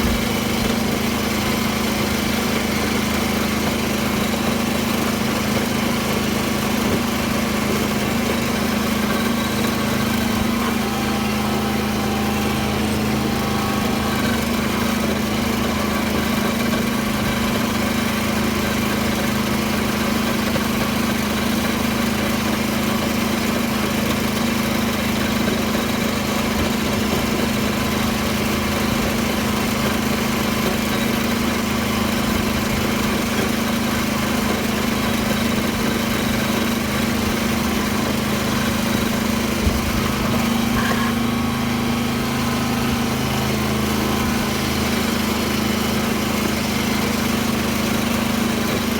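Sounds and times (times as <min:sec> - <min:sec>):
tractor engine droning: 0:00.0 - 0:48.9.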